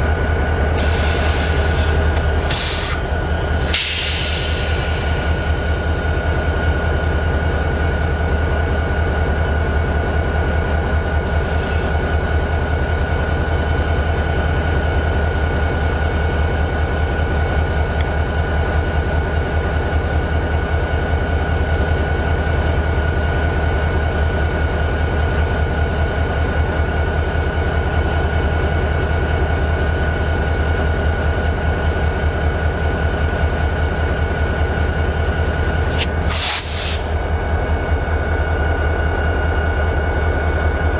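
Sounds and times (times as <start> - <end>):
diesel locomotive idling: 0.0 - 40.9.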